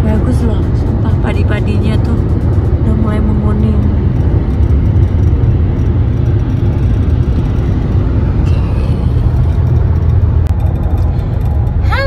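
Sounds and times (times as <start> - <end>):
car interior highway rumble: 0.0 - 12.0.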